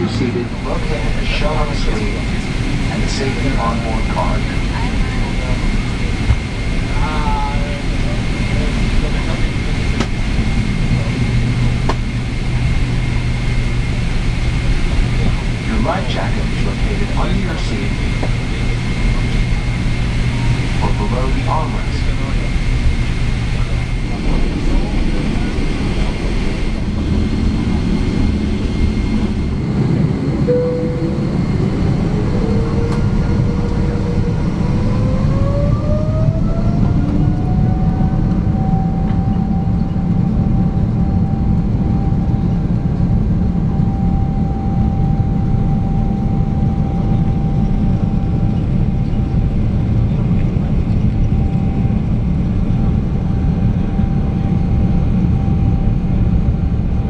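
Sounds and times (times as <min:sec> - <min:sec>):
jet engines spooling up: 0:00.0 - 0:57.0
low engine rumble: 0:00.0 - 0:57.0.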